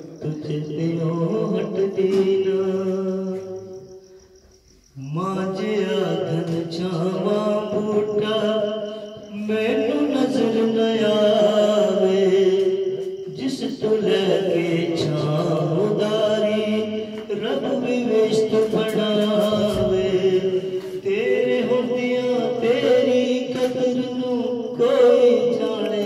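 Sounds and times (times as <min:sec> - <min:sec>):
man singing: 0:00.0 - 0:03.8, 0:05.0 - 0:26.0.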